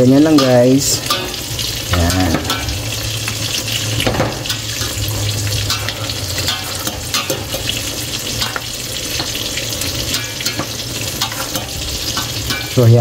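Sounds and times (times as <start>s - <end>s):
shrimp sizzling in hot oil: 0.0s - 13.0s.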